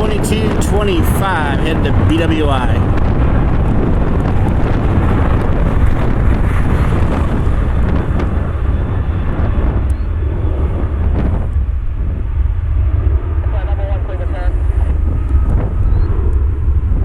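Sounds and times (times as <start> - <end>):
jet engines roaring: 0.0 - 17.0
wind buffeting microphone: 0.0 - 17.0.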